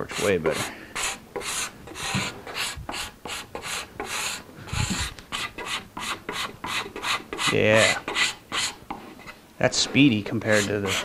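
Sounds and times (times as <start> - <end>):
hand scraper rasping on wood: 0.0 - 11.0.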